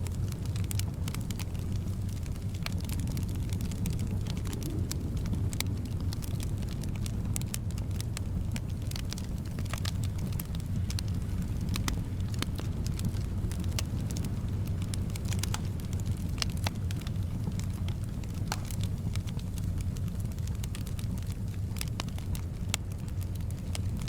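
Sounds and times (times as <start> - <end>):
soft wind: 0.0 - 24.0
wood fire crackling: 0.0 - 24.0.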